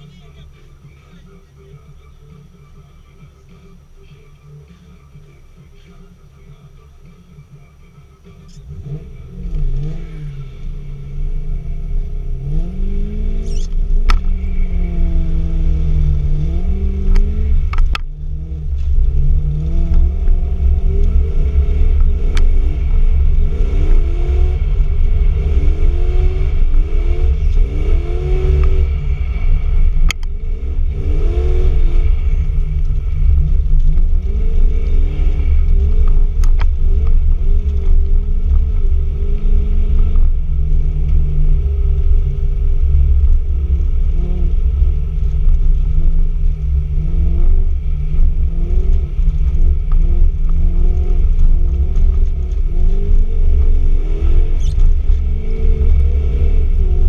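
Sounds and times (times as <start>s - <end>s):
car engine revving: 0.0s - 57.0s
heavy low rumble: 0.0s - 57.0s.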